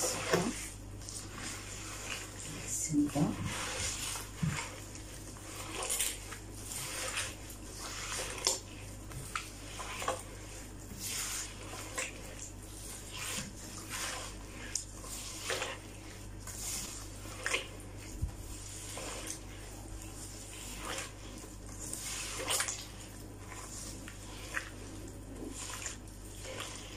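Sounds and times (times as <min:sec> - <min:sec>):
hand rubbing butter in clay bowl: 0:00.0 - 0:26.9.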